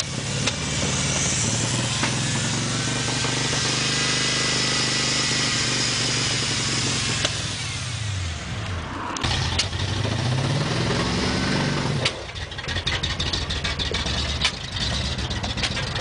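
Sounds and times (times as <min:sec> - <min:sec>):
pickup truck engine revving: 0:00.0 - 0:16.0.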